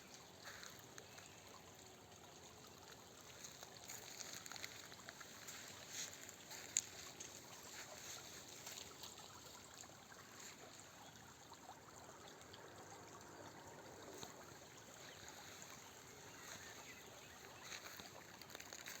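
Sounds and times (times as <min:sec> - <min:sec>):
water lapping at shore: 0:00.0 - 0:19.0.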